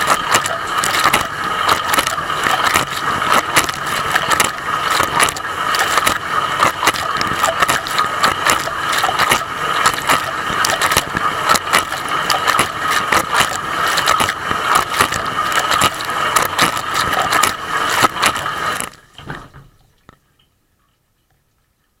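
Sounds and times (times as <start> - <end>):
droplets ticking: 0.0 - 19.0
water spray splashing: 0.0 - 19.1
pump whine: 0.0 - 19.8.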